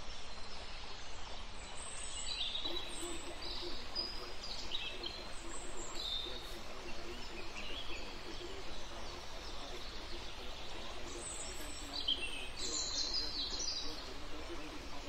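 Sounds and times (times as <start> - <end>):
steady background hiss: 0.0 - 15.0
birds chirping: 1.6 - 15.0.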